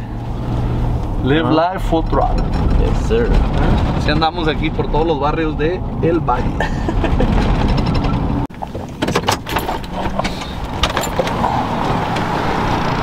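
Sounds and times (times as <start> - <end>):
car engine rumble: 0.0 - 13.0
steady vehicle hum: 0.0 - 13.0.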